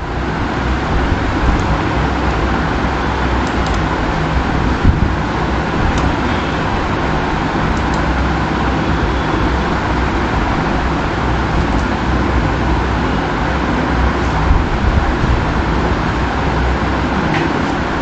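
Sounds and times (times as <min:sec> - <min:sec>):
loud rushing noise: 0:00.0 - 0:18.0
low rumble: 0:00.0 - 0:18.0.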